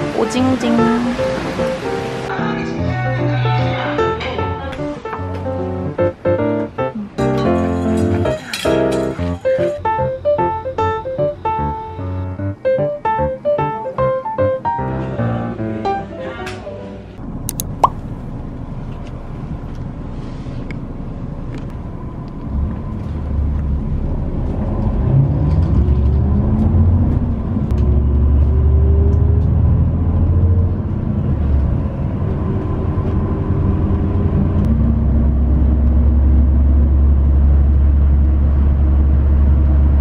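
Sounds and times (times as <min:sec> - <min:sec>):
bus engine and road rumble: 0:00.0 - 0:12.6, 0:13.3 - 0:40.0.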